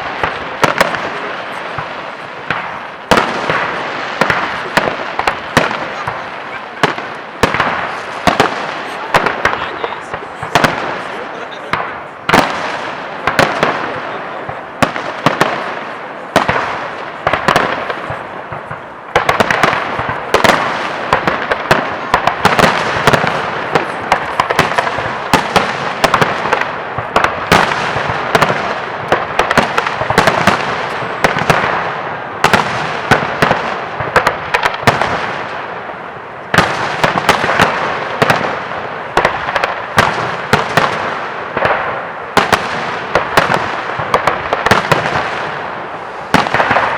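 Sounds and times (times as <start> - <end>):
dense firework crackle: 0.0 - 46.9.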